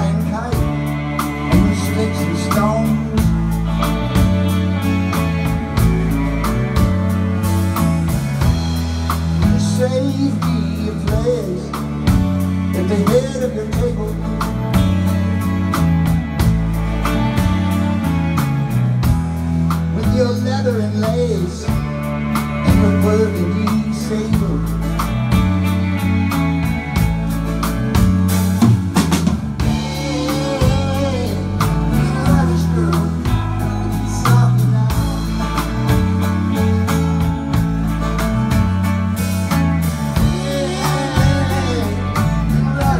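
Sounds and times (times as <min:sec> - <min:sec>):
bass guitar: 0:00.0 - 0:42.9
electric guitar lead: 0:00.0 - 0:42.9
steady drum beat: 0:00.0 - 0:42.9.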